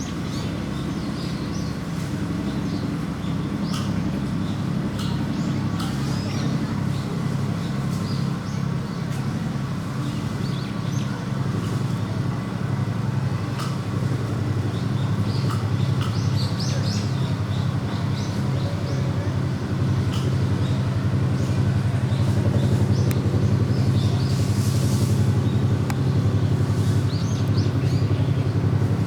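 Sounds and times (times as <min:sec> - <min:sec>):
birds chirping: 0:00.0 - 0:29.0
low engine drone: 0:00.0 - 0:29.0.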